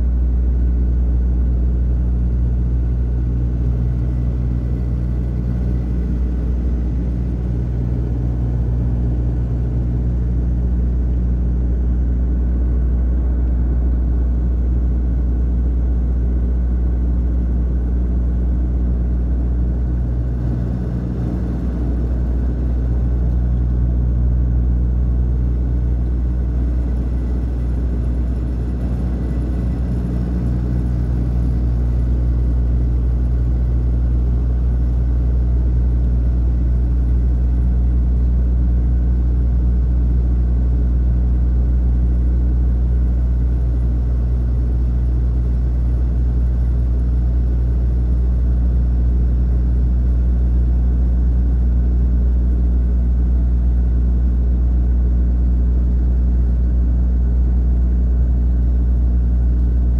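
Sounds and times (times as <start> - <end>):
propeller aircraft cabin drone: 0.0 - 59.9.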